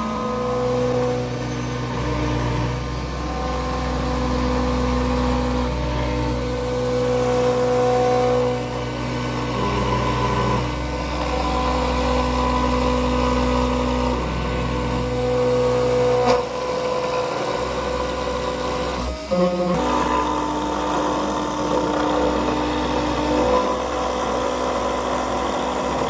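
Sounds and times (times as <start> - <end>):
cnc router motors whining: 0.0 - 26.0.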